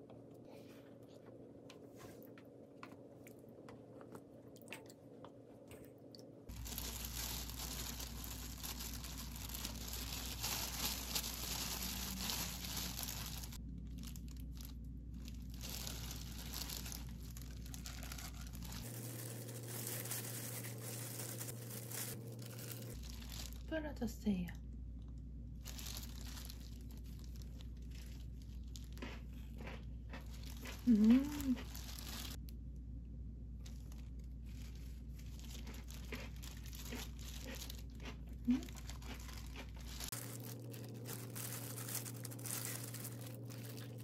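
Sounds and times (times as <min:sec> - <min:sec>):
faint low hum: 0:00.0 - 0:44.0
wet crunching of filling: 0:05.6 - 0:23.8, 0:25.0 - 0:32.4, 0:33.6 - 0:44.0
plastic gloves crinkling: 0:06.5 - 0:32.6, 0:33.5 - 0:44.0.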